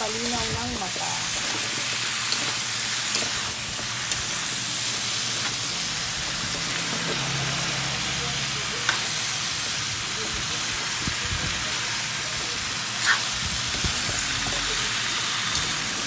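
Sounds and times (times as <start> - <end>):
food sizzling in wok: 0.0 - 16.0.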